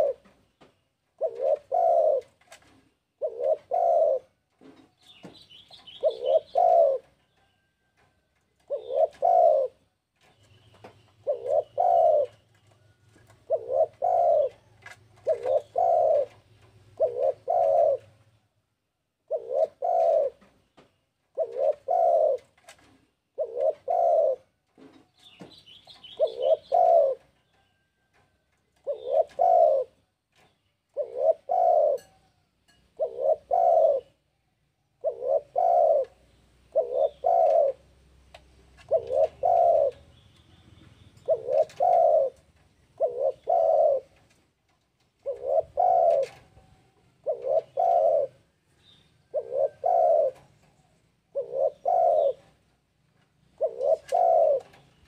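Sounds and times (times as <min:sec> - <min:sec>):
dove cooing: 0:00.0 - 0:00.3, 0:01.1 - 0:07.4, 0:08.6 - 0:09.9, 0:10.5 - 0:18.4, 0:19.2 - 0:20.5, 0:21.3 - 0:27.5, 0:28.7 - 0:34.3, 0:34.9 - 0:38.0, 0:38.6 - 0:44.4, 0:45.2 - 0:52.8, 0:53.4 - 0:55.0.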